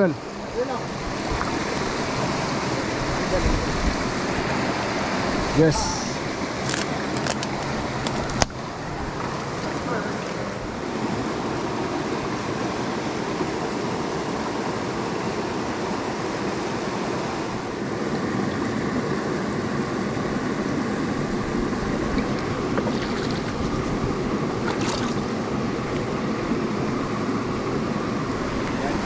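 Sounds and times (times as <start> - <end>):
stream water rushing over rocks: 0.0 - 29.0.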